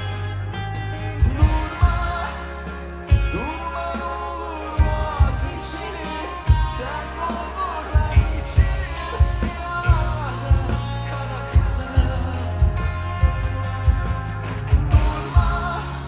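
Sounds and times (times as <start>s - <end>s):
live rock band playing: 0.0s - 16.0s
melodic lead line: 0.0s - 16.0s.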